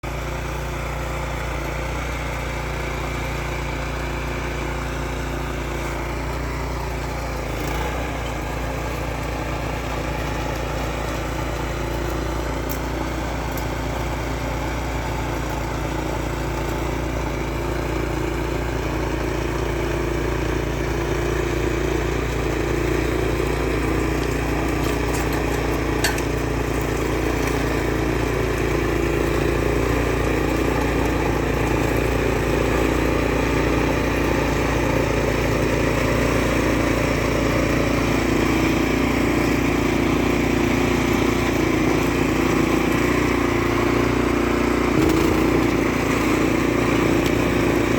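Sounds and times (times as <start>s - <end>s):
snow blower engine running: 0.0s - 47.9s.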